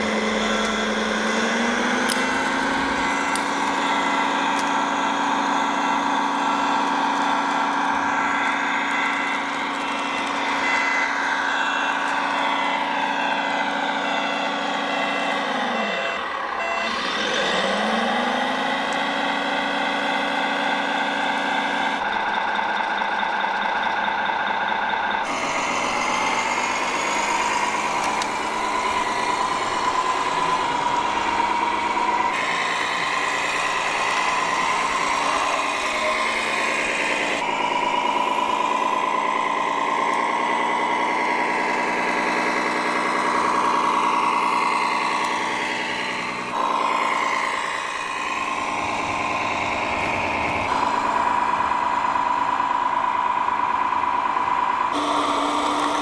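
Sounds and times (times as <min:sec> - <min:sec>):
toy truck motor humming: 0:00.0 - 0:56.0.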